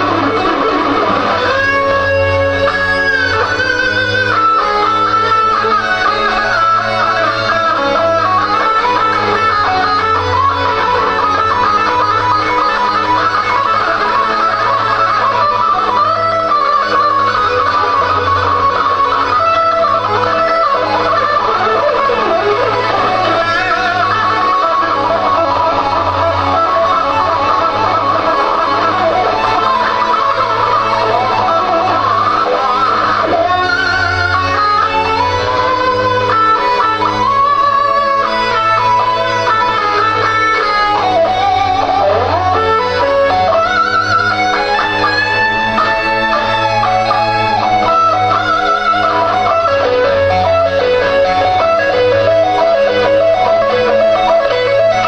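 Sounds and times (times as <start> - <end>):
amplified acoustic guitar: 0.0 - 55.0.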